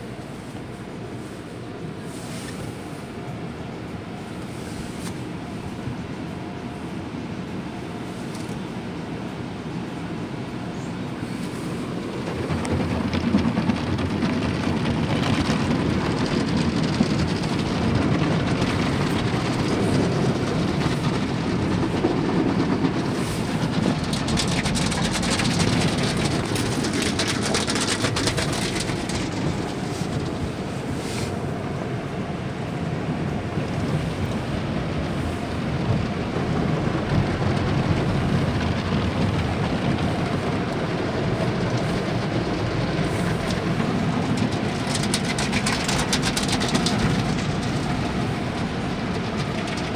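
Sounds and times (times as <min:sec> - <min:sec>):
car wash brushes rumbling: 0:00.0 - 0:49.9.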